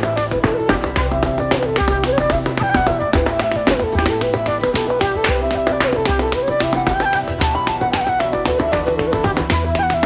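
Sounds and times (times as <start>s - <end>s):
flute playing a reel: 0.0s - 10.0s
guitar backing: 0.0s - 10.0s
shoes tapping on hard floor: 0.0s - 10.0s.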